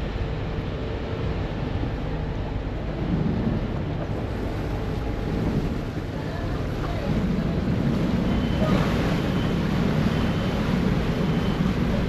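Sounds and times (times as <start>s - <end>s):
ferry engines churning water: 0.0s - 12.0s.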